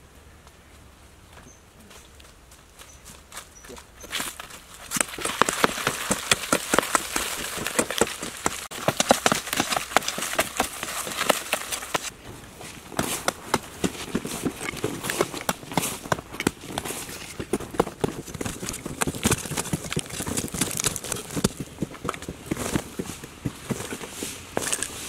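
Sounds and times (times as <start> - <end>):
hands scraping dry soil: 3.5 - 25.0.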